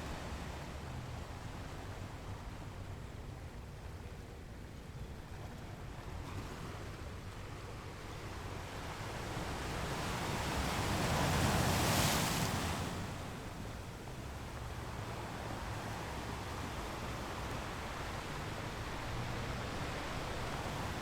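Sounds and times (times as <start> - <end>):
low rumble of the sea: 0.0 - 21.0.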